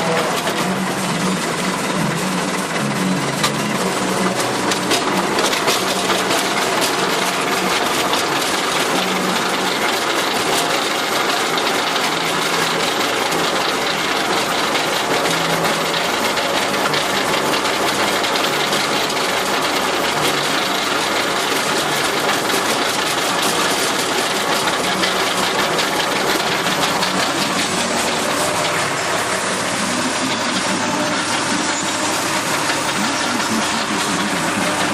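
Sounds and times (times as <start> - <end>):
tractor diesel engine clattering: 0.0 - 34.9.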